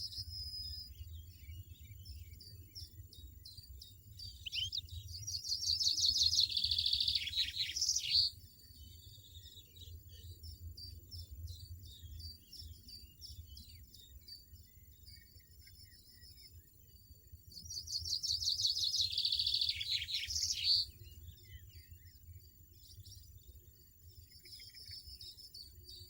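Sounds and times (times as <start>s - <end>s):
goldfinch chirping and twittering: 0.0s - 26.0s.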